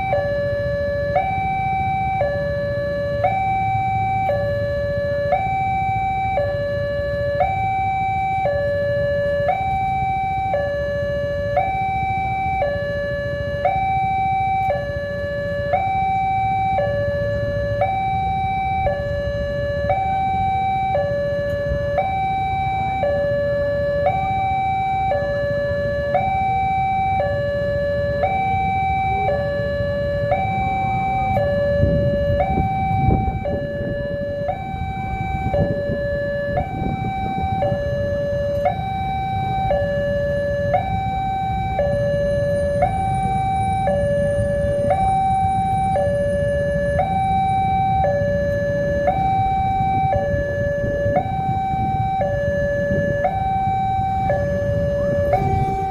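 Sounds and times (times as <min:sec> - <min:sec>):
level crossing two-tone alarm: 0:00.0 - 0:55.9
low rumble of traffic: 0:00.0 - 0:55.9.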